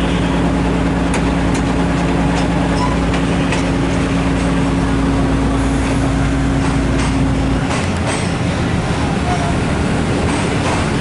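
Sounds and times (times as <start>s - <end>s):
diesel engine droning: 0.0s - 11.0s
rough engine rumble: 0.0s - 11.0s.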